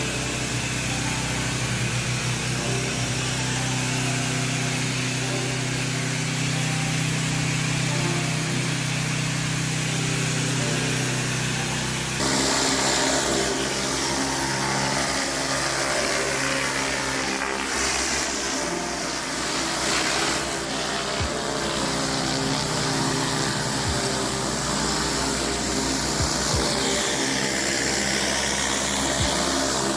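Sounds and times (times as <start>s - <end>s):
high-pressure water spraying: 0.0s - 29.9s
pressure washer engine running: 0.0s - 29.9s.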